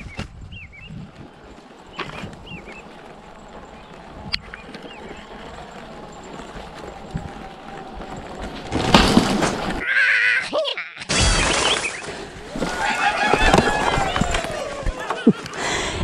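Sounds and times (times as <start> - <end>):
bike tyres rumbling and rattling: 0.0 - 9.8, 11.4 - 16.0
birds chirping: 0.0 - 9.8, 11.2 - 16.0.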